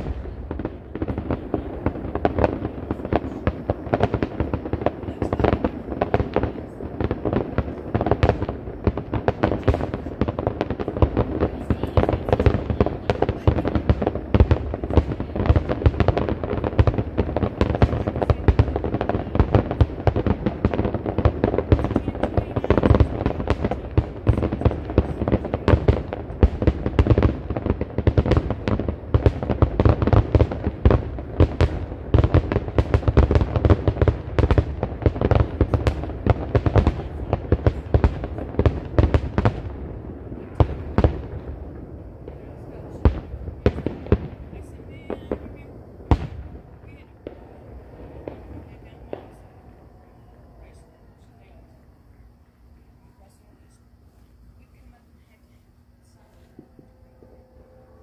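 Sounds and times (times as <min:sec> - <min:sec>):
fireworks booms and crackles: 0:00.0 - 0:58.0.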